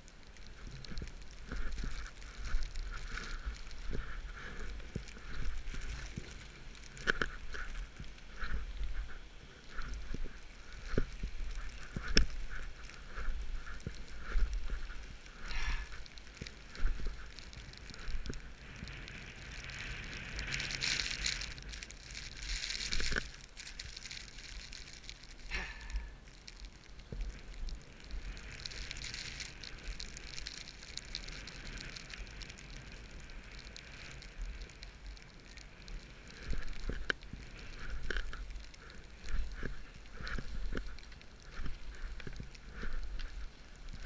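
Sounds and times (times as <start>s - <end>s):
sharp ski clicks: 0.0s - 44.0s
skis sliding over snow: 0.0s - 44.0s.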